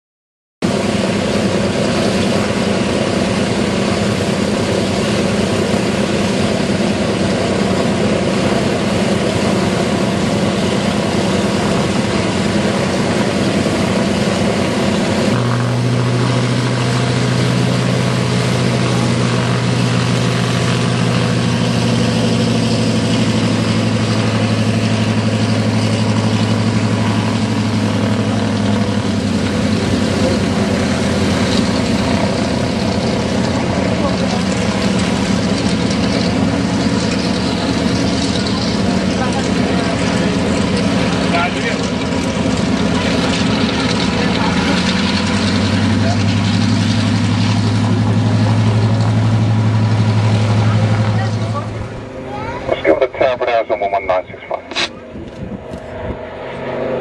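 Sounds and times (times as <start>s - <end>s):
propeller plane engines running: 0.6s - 57.0s.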